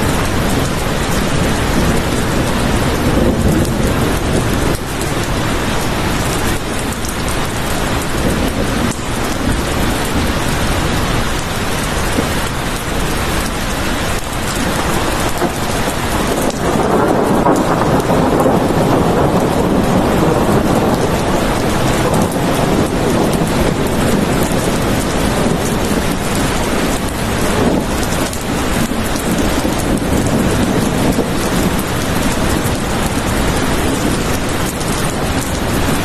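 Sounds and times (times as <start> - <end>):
low rumble of thunder: 0.0 - 12.8, 13.4 - 36.0
heavy rain falling: 0.0 - 36.0.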